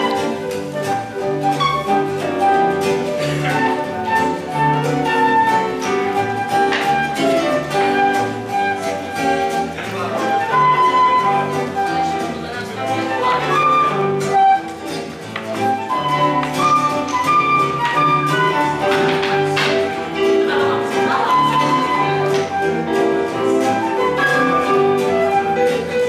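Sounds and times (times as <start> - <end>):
acoustic band playing: 0.0 - 26.0
plucked double bass: 0.0 - 26.0
strummed guitar: 0.0 - 26.0.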